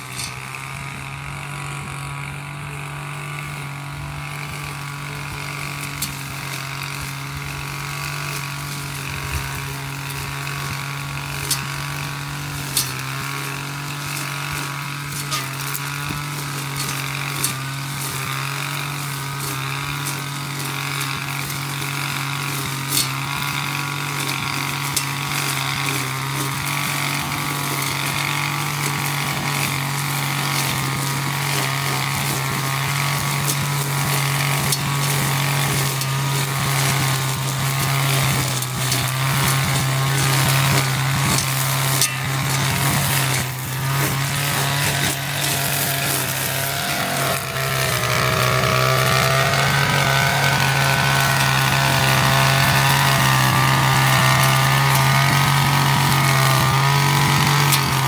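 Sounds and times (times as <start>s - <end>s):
brush cutter engine running: 0.0s - 58.0s
debris ticking on cutter: 0.0s - 58.0s.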